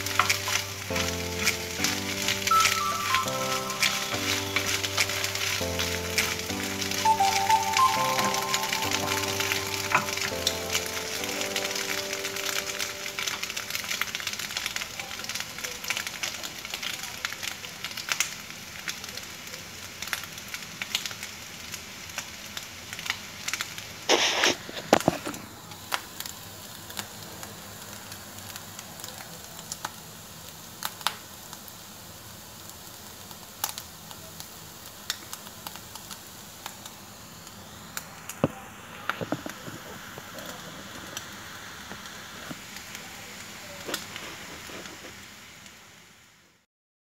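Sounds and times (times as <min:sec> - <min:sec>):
pops and crackles: 0:00.0 - 0:19.3, 0:20.0 - 0:31.7, 0:32.8 - 0:45.3
food sizzling in a frying pan: 0:00.0 - 0:46.6.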